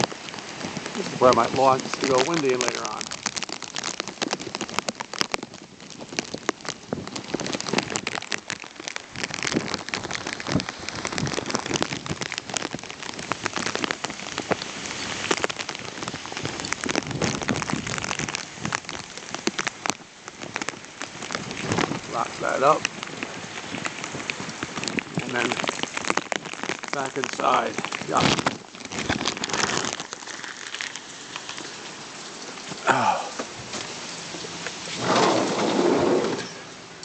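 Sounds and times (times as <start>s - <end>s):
raindrops tapping plastic sheet: 0.0s - 36.9s
steady rain falling: 0.0s - 37.0s.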